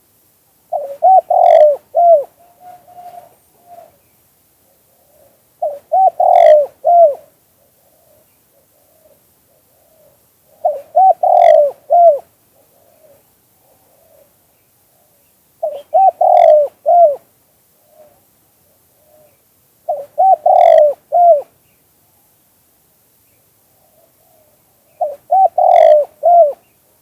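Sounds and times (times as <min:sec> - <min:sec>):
dove cooing: 0:00.7 - 0:04.0, 0:04.7 - 0:18.2, 0:19.0 - 0:21.5, 0:23.8 - 0:26.7.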